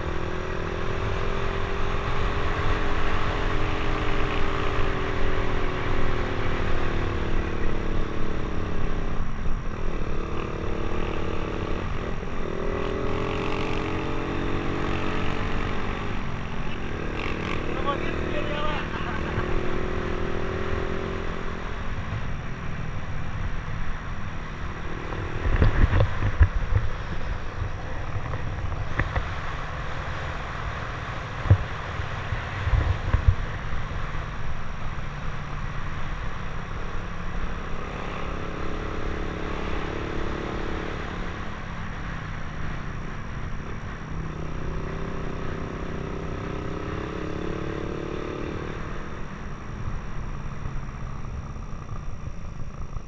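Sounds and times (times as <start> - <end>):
motorcycle engine rumbling: 0.0 - 53.0.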